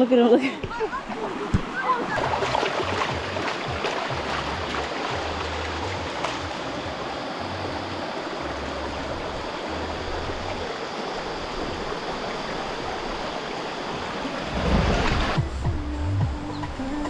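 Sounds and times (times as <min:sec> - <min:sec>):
river water rushing: 0:00.7 - 0:15.5.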